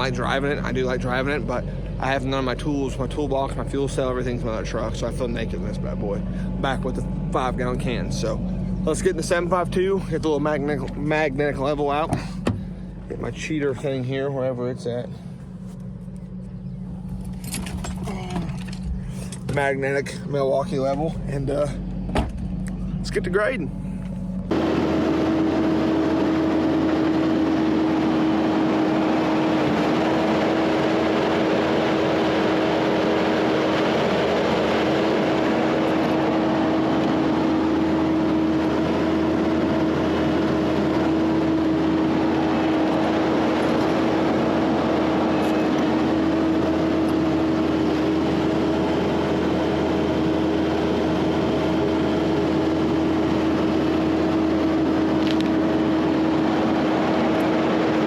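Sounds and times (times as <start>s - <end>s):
loader diesel engine running: 0.0s - 58.0s.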